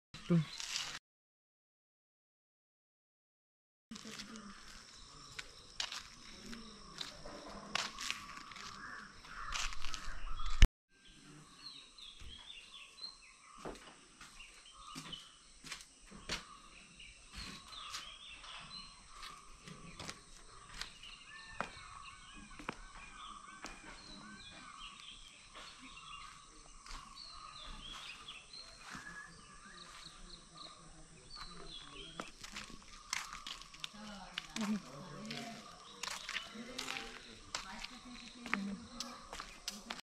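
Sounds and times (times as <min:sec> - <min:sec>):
small birds chirping: 0:00.2 - 0:01.0, 0:03.9 - 0:40.0.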